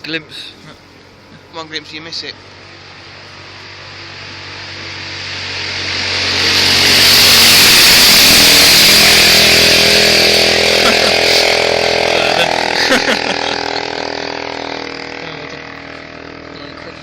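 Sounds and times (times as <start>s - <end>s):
vehicle engine approaching: 0.0s - 17.0s.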